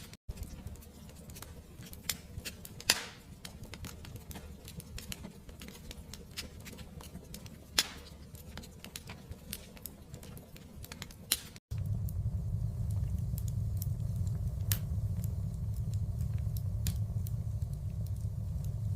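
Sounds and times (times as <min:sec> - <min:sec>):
fire crackling and popping: 0:00.0 - 0:18.9
low rumble of flames: 0:00.3 - 0:18.9.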